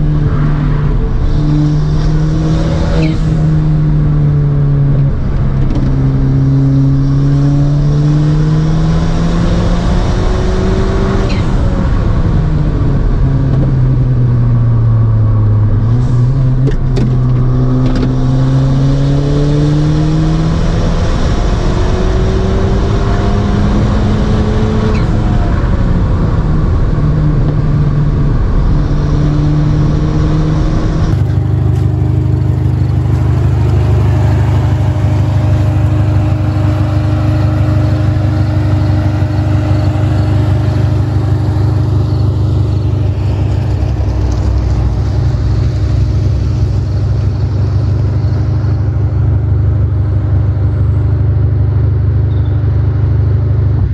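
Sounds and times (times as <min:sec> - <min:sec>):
car engine droning: 0:00.0 - 0:53.9.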